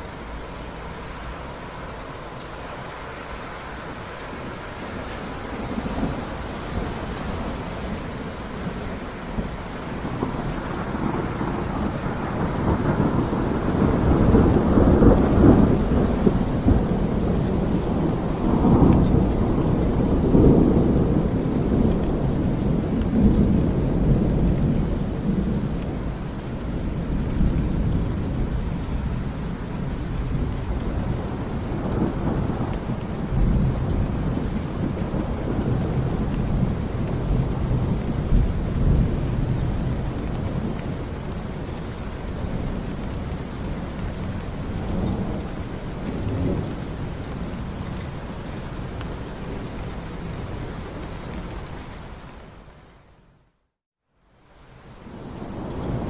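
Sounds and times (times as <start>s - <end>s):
thunder rumbling: 0.0s - 51.5s
steady rain: 0.0s - 56.0s.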